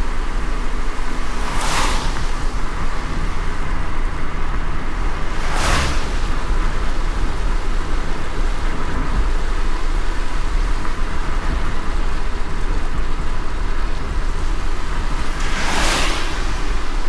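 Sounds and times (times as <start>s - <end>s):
car road rumble: 0.0s - 17.0s
rain hiss: 0.0s - 17.0s.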